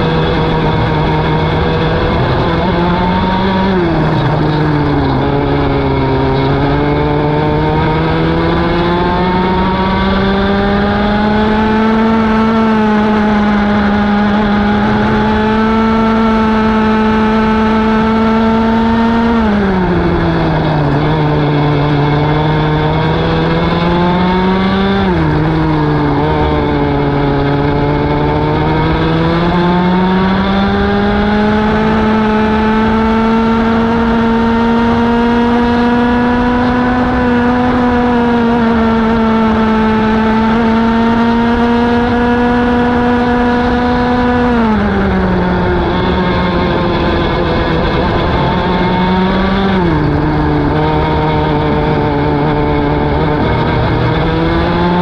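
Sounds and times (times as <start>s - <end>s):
kart engine accelerating: 0.0s - 55.0s.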